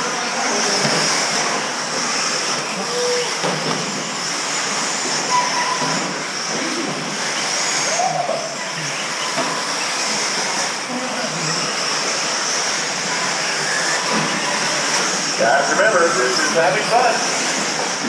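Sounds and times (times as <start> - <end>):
rc car motor and gear whine: 0.0 - 18.0.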